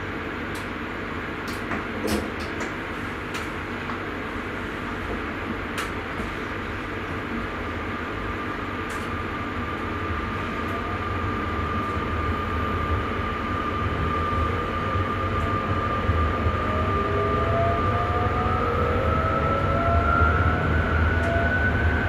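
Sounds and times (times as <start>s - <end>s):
train rumbling and rolling: 0.0s - 22.0s.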